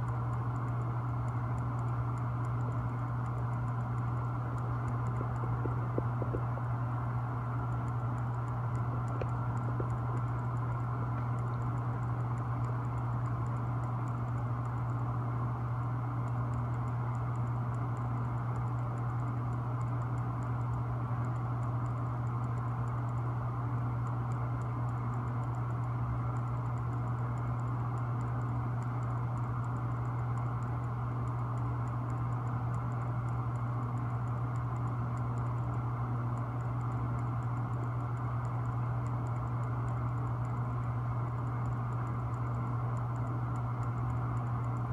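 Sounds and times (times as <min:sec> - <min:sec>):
faint rapid ticking: 0:00.0 - 0:44.9
low hum: 0:00.0 - 0:44.9.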